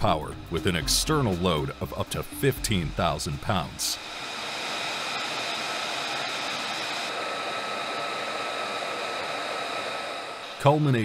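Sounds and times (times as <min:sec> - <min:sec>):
high-pitched whines: 0:00.0 - 0:11.0
jet turbine rushing: 0:00.0 - 0:11.0.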